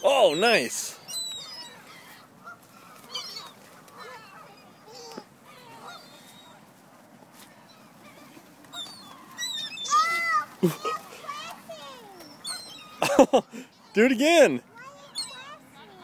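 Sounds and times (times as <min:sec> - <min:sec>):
ducks and waterbirds calling: 0:00.0 - 0:16.0.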